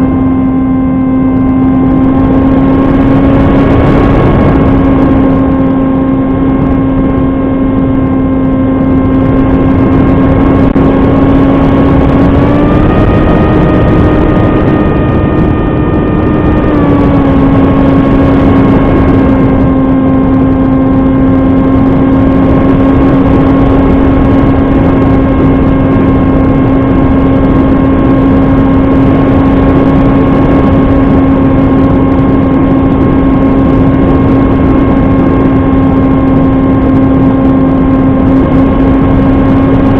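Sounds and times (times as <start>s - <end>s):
model plane motor whine: 0.0s - 39.9s
wind noise: 0.0s - 39.9s.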